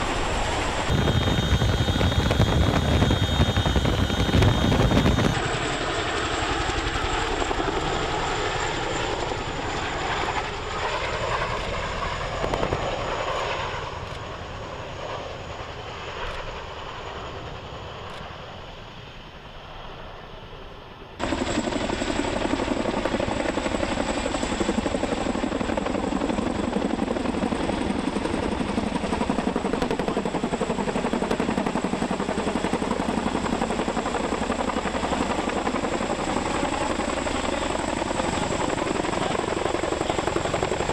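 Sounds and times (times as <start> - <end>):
helicopter rotor noise: 0.0 - 40.9.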